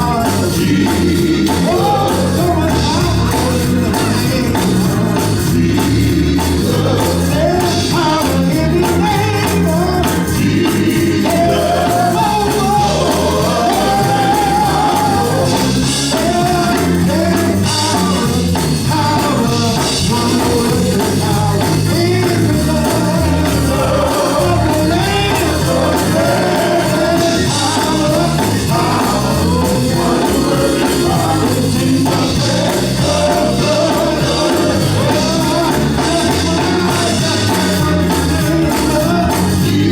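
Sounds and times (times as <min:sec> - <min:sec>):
band with steady beat: 0:00.0 - 0:39.9
gospel singing: 0:00.0 - 0:39.9
tambourine: 0:00.0 - 0:39.9.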